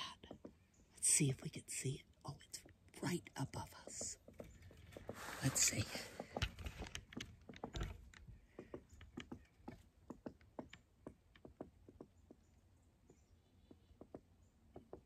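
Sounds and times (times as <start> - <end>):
woodpecker tapping on wood: 0.0 - 1.1, 2.5 - 15.0.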